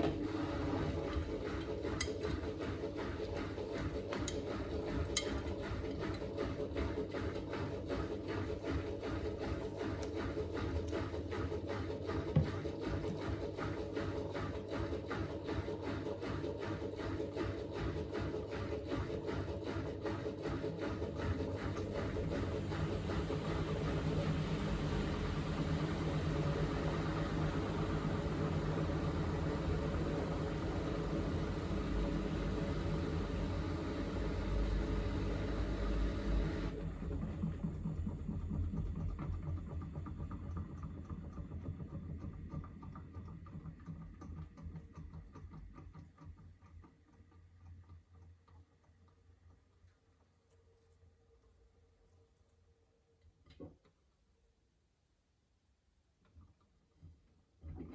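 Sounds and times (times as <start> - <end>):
washing machine drum spinning: 0.0 - 48.4.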